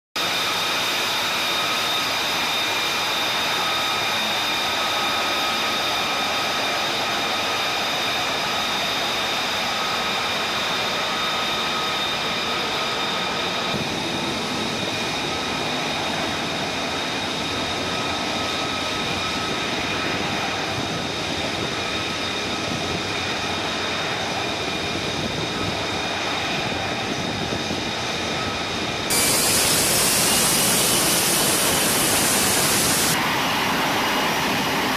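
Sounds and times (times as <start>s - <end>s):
high jet engine whine: 0.2s - 34.9s
jet engine roar: 0.2s - 34.9s.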